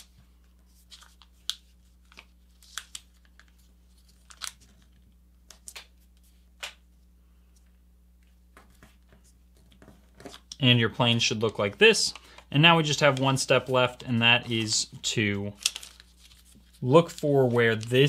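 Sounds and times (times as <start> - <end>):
paper folding and crinkling: 0.0 - 6.4, 8.6 - 18.0.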